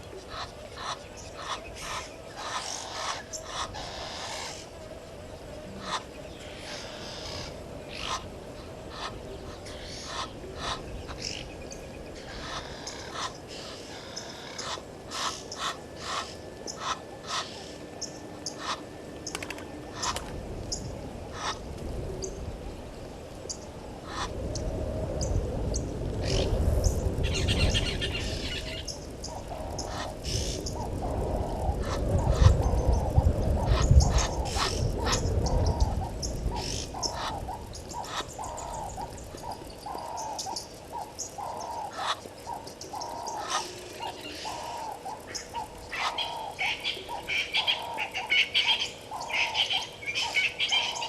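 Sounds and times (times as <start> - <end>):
birds chirping and calling: 0.0 - 51.0.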